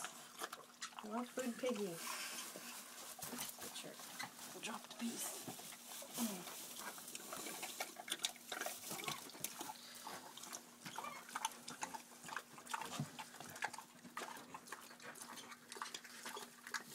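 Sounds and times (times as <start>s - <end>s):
pig chewing and smacking: 0.0s - 16.9s.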